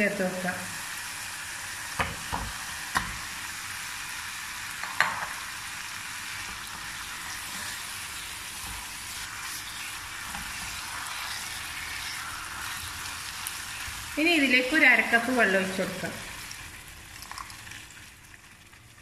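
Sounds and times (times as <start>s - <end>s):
paste sizzling in oil: 0.0s - 18.4s.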